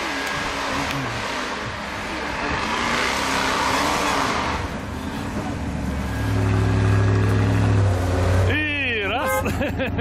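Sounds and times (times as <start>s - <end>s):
off-road vehicles passing: 0.0s - 10.0s.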